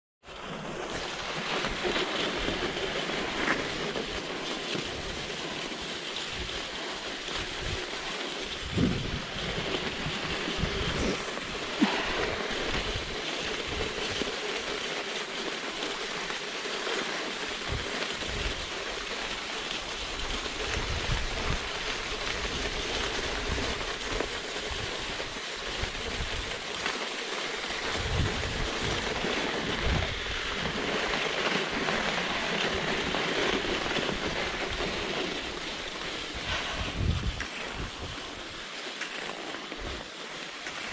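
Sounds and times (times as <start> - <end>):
skis scraping over snow: 0.2 - 40.9.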